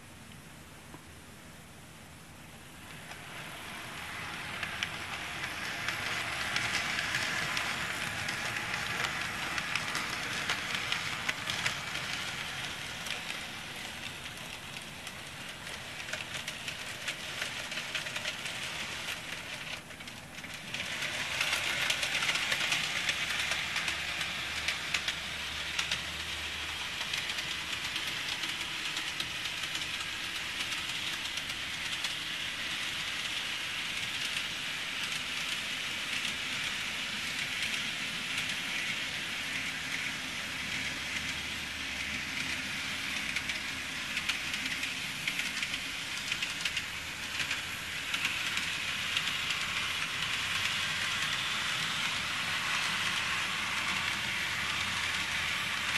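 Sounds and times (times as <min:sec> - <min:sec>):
model train whirring rattle: 0:02.7 - 0:55.9
fast faint clicking: 0:04.0 - 0:55.9.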